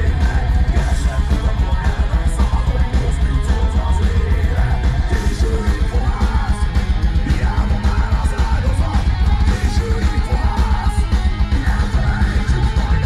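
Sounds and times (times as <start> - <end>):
distorted electric guitars: 0.0 - 13.0
fast drums: 0.0 - 13.0
yelled vocals: 0.0 - 13.0.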